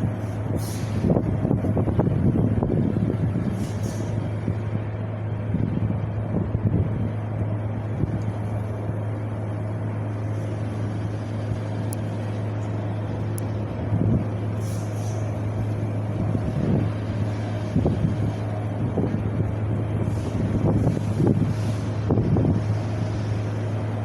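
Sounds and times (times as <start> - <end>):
wind blowing: 0.0 - 24.0.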